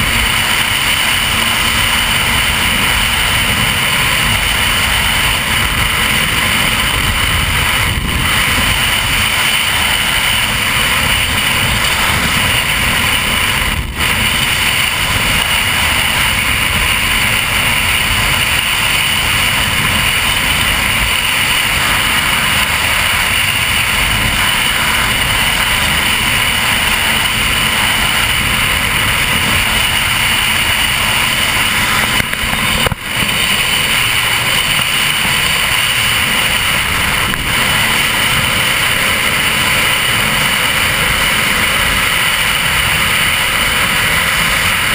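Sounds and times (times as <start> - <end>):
powerboat engine drone: 0.0 - 44.9
wind on microphone: 0.0 - 44.9.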